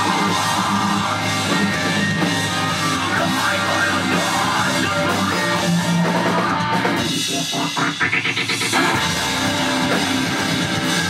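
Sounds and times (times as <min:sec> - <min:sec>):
drum kit with cymbals: 0:00.0 - 0:11.0
electric guitars: 0:00.0 - 0:11.0.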